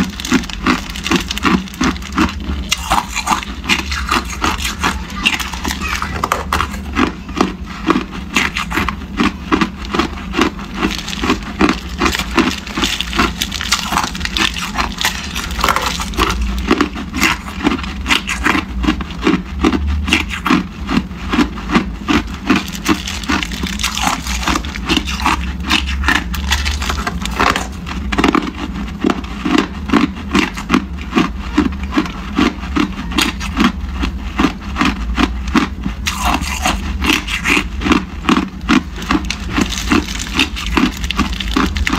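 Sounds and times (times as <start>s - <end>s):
ice being chewed: 0.0s - 41.9s.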